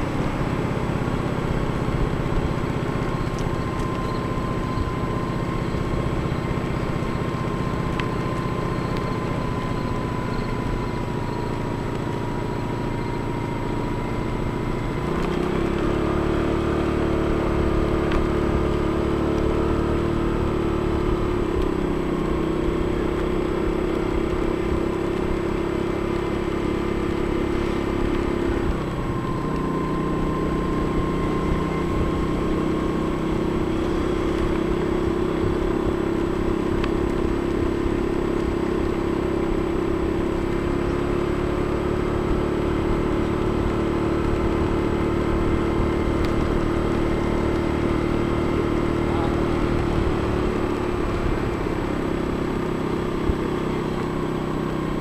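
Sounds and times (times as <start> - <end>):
road noise rumble: 0.0 - 55.0
vehicle engine running: 0.0 - 55.0.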